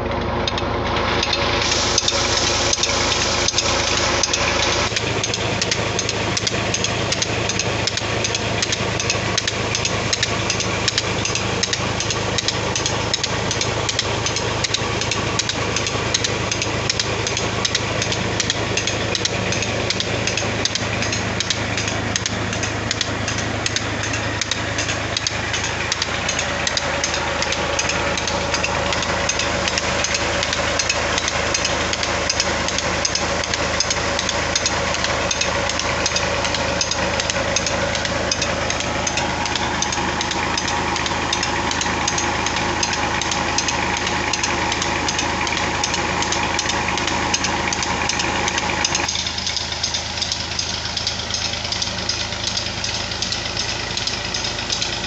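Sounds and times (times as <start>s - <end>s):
tractor diesel engine running: 0.0s - 55.0s
sharp regular clicking: 0.1s - 55.0s.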